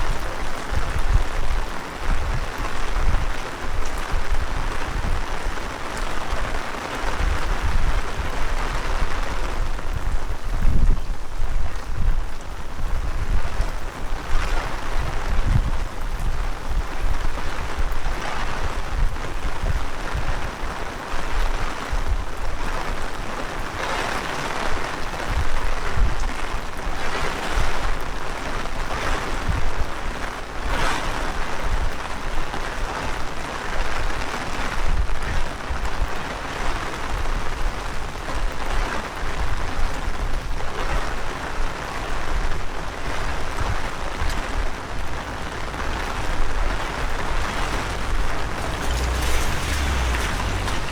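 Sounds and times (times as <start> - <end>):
heavy rain falling: 0.0 - 50.9
wind buffeting microphone: 0.0 - 50.9.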